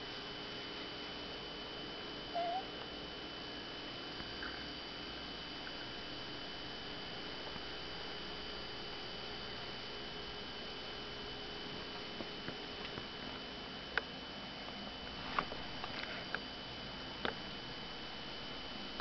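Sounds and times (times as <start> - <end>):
steady hum and hiss: 0.0 - 19.0.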